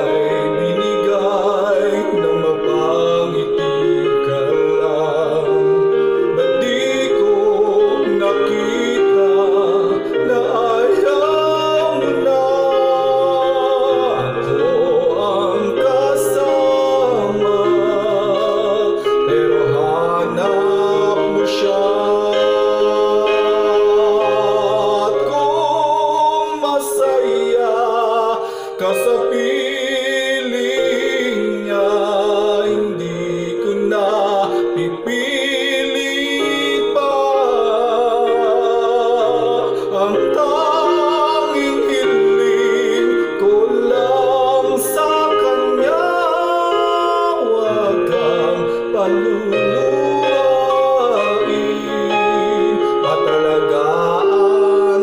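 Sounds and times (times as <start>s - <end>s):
instrumental backing music: 0.0s - 55.0s
man singing into microphone: 0.0s - 55.0s.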